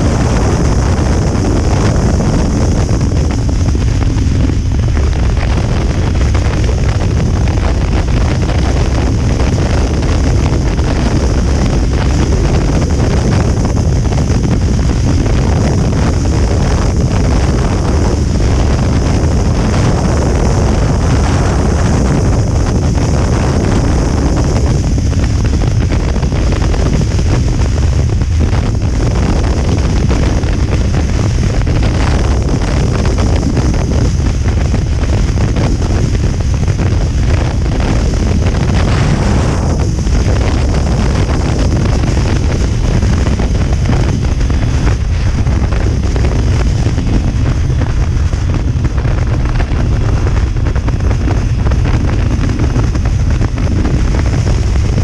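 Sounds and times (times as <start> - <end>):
motorcycle running: 0.0 - 55.0
wind buffeting microphone: 0.0 - 55.0.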